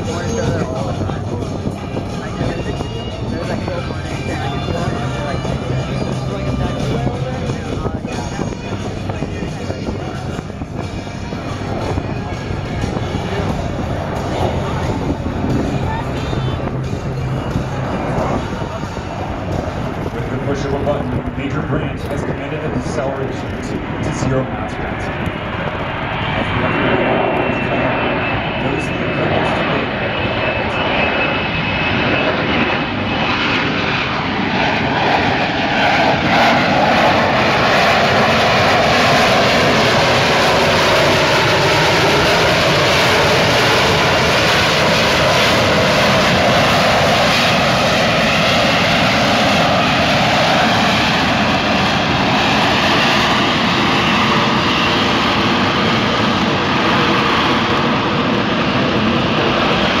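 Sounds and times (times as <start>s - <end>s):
jet hovering at high power: 0.0s - 60.0s.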